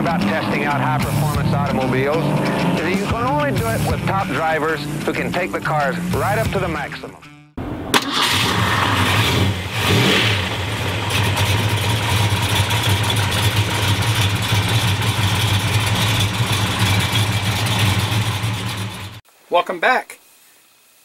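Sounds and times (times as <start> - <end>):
car engine starting and running: 0.0 - 6.8, 7.6 - 19.2.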